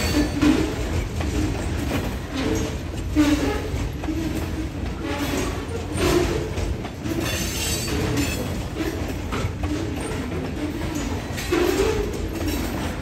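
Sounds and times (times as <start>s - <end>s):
steel wheels rumbling: 0.0s - 13.0s.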